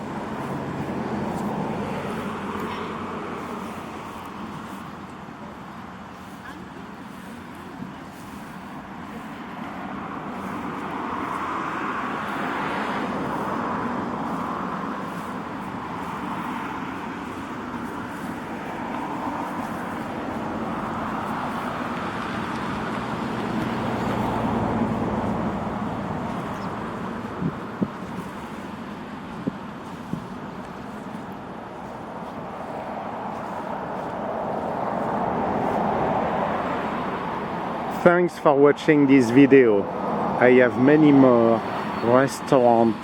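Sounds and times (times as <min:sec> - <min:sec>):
vehicles passing by: 0:00.0 - 0:43.0.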